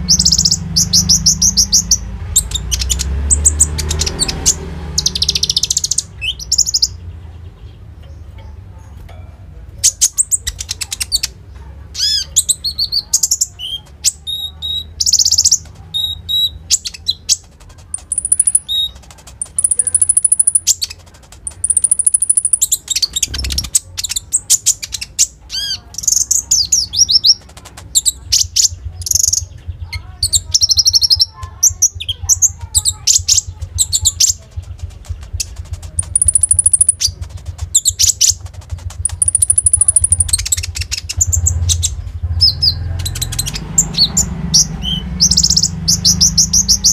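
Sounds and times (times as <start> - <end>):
bird singing chirps and trills: 0.0 - 46.9.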